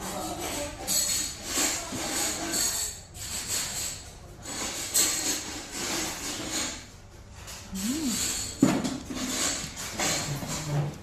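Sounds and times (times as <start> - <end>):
restaurant background noise: 0.0 - 11.0.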